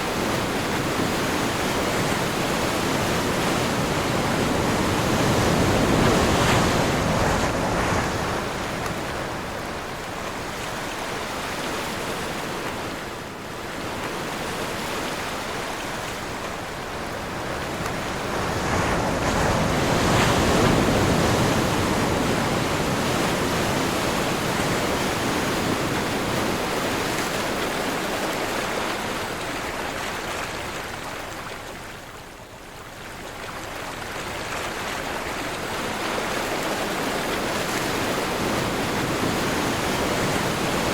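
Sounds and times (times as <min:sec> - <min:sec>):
ocean surf breaking: 0:00.0 - 0:13.0, 0:14.0 - 0:29.8, 0:34.7 - 0:40.9.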